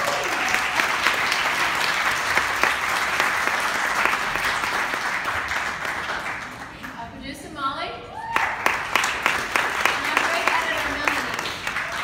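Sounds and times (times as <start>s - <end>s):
audience applauding: 0.0s - 7.0s, 8.2s - 12.0s.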